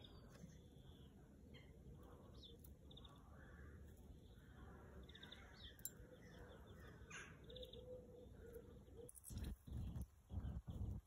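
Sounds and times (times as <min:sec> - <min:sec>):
small birds chirping and trilling: 0:00.0 - 0:11.0.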